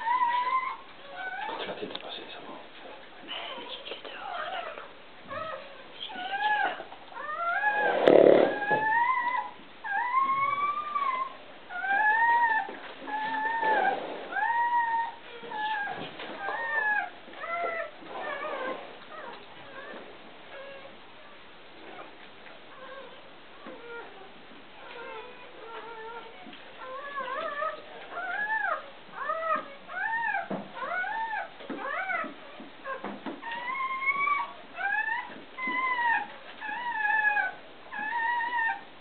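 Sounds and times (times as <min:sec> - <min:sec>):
puppy squealing: 0:00.0 - 0:01.7, 0:04.4 - 0:20.9, 0:22.8 - 0:38.9.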